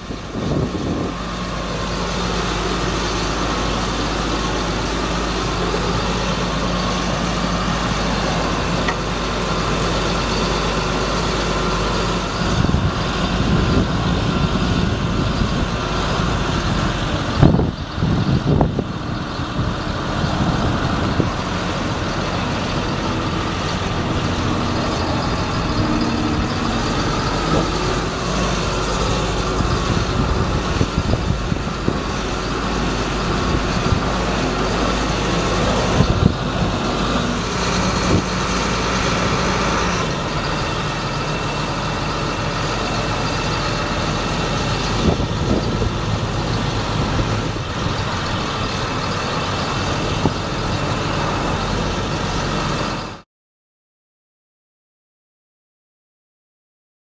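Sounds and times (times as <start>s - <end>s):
truck engine running: 0.0s - 53.2s.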